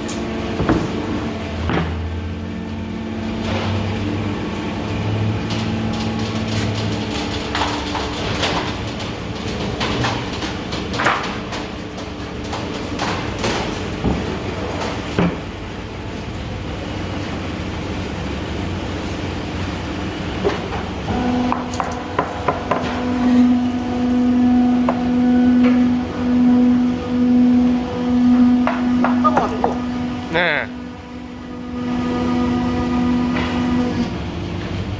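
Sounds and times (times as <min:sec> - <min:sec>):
machinery knocks and clanks: 0:00.0 - 0:02.2, 0:03.2 - 0:15.6, 0:20.4 - 0:34.9
industrial machinery humming: 0:00.0 - 0:34.9.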